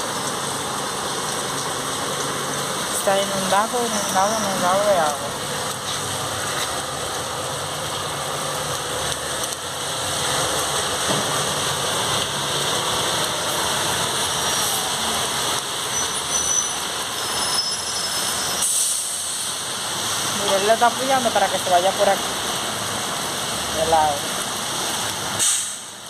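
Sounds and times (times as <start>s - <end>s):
heavy rain falling: 0.0s - 26.0s
road traffic passing: 0.0s - 26.0s
vehicles driving through water: 0.0s - 26.0s.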